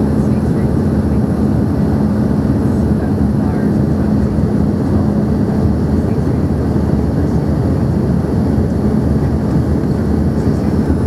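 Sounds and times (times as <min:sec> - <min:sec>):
jet cabin roar: 0:00.0 - 0:11.0
steady low hum: 0:00.0 - 0:11.0.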